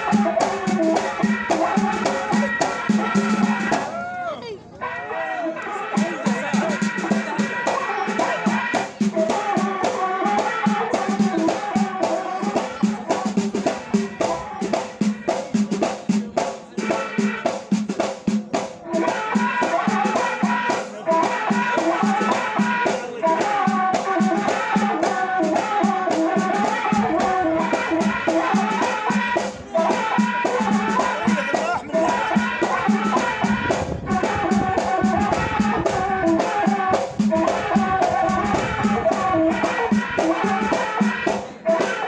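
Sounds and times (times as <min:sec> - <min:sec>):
drums and rattling percussion: 0:00.0 - 0:04.9, 0:05.5 - 0:42.0.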